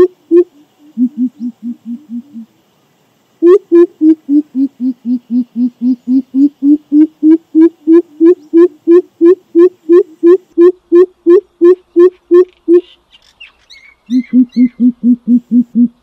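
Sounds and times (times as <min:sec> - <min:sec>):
bird giving deep hooting call: 0:00.0 - 0:02.5, 0:03.4 - 0:13.0, 0:14.1 - 0:16.0.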